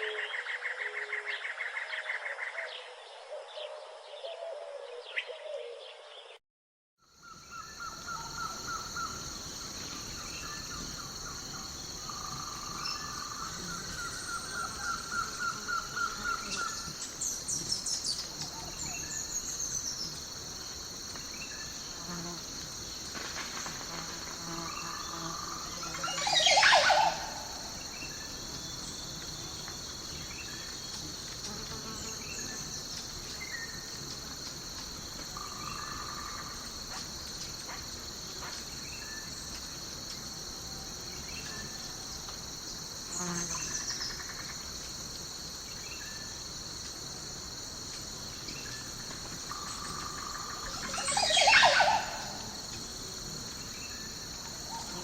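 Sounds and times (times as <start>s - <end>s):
crickets and insects droning: 0.0s - 6.3s, 7.0s - 55.0s.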